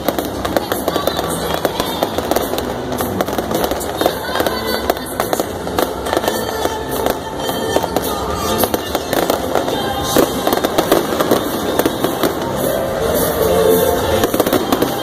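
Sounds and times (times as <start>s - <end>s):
fireworks bangs: 0.0s - 15.0s
music playing: 0.0s - 15.0s.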